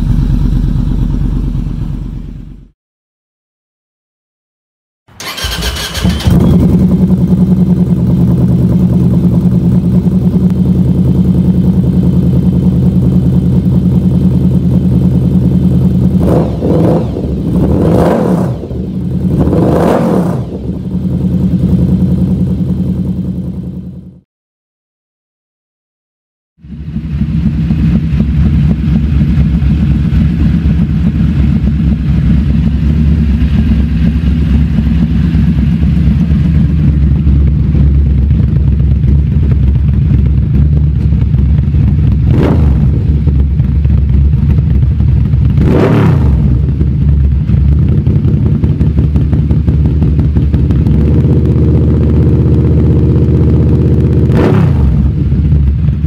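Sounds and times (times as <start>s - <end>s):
motorcycle engine deep rumble: 0.0s - 2.7s, 5.2s - 24.2s, 26.6s - 56.0s.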